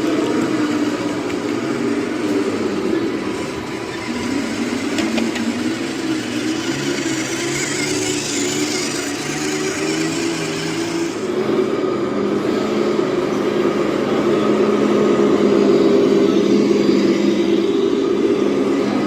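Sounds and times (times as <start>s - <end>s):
model truck motor drone: 0.0s - 19.0s.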